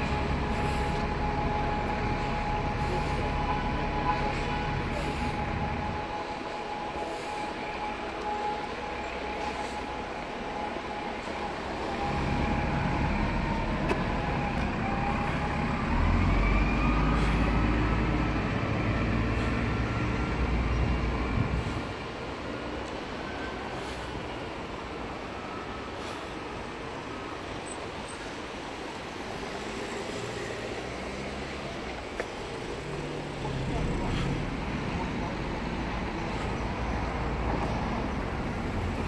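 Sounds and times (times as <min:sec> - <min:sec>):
road traffic hum: 0:00.0 - 0:39.0.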